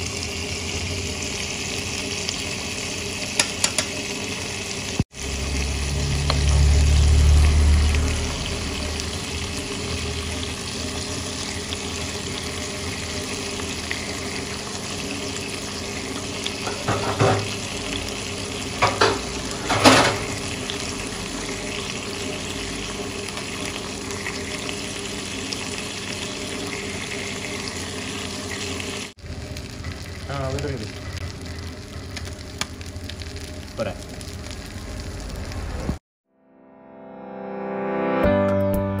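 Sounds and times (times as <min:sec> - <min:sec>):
fish fillets sizzling in butter: 0:00.0 - 0:36.0.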